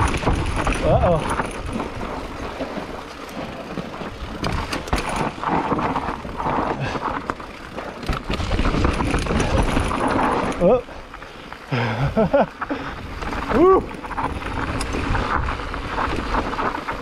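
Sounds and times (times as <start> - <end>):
bike knocking and rattling: 0.0 - 17.0
bike tyres rolling over dirt: 0.0 - 17.0.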